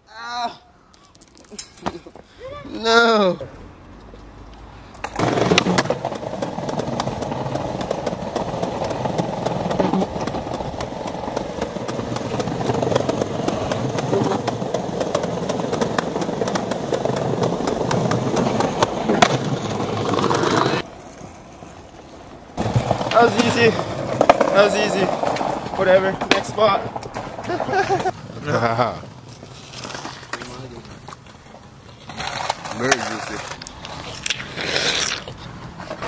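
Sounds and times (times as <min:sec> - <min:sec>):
skateboard wheels rolling on pavement: 0:03.6 - 0:36.0
skateboard clicks and knocks: 0:05.0 - 0:28.4, 0:29.1 - 0:36.0.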